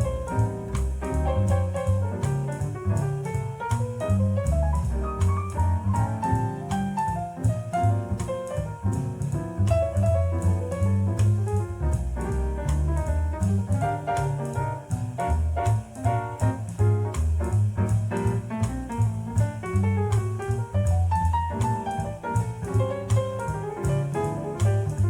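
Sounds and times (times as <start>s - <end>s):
instrumental jazz: 0.0s - 25.0s.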